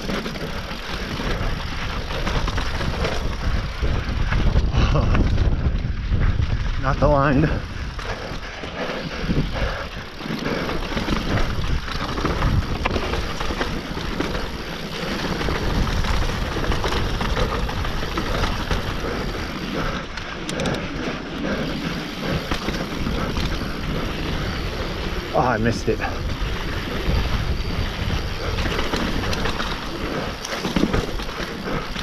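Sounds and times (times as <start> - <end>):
bike rattling and knocking: 0.0 - 32.0
bike tyres rushing over dirt: 0.0 - 32.0.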